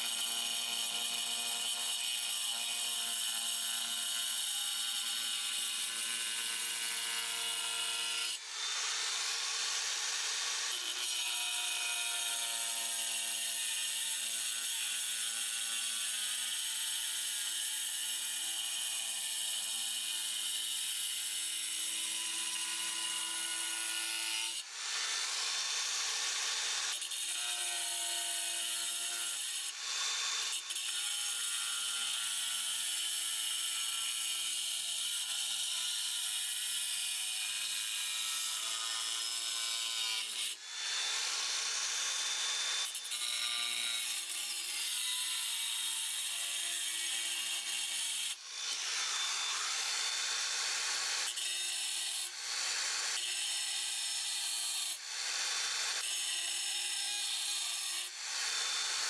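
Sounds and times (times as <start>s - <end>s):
angle grinder cutting tile: 0.0s - 59.0s.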